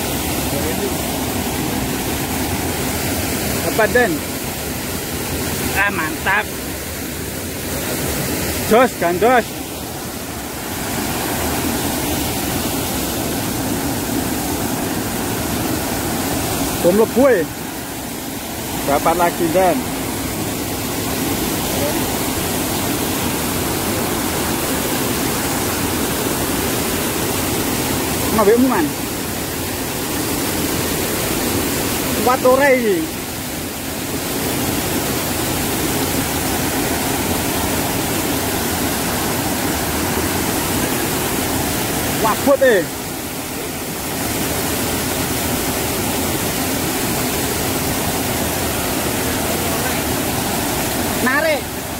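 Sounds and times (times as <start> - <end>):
floodwater rushing over a drop: 0.0 - 51.9.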